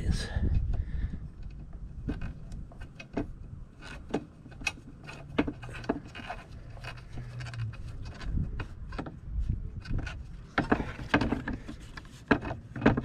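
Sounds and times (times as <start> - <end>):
clicks and scrapes of bolt fitting: 0.5 - 13.0.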